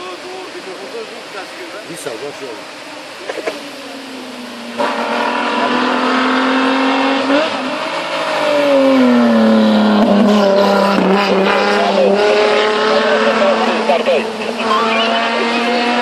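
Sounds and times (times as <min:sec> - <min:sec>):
race car engine revving: 0:02.6 - 0:16.0.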